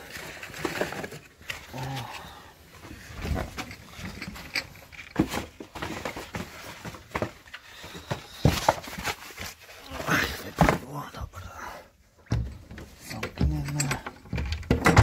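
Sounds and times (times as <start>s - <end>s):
knocks and rustles: 0.0s - 11.1s, 12.2s - 15.0s.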